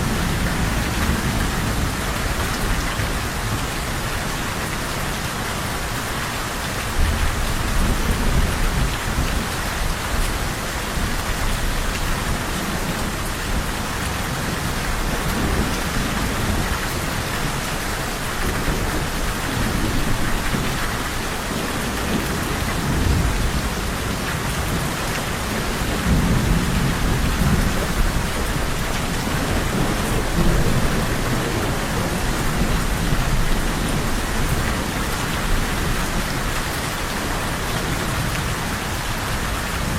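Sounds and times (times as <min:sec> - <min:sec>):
rain falling: 0:00.0 - 0:39.9
low rolling thunder: 0:06.7 - 0:39.9.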